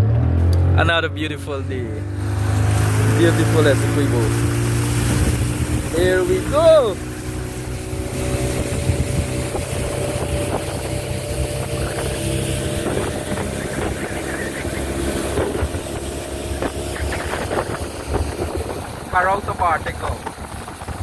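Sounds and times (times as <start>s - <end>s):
motorboat engine running: 0.0s - 21.0s
water splashing against hull: 2.0s - 21.0s.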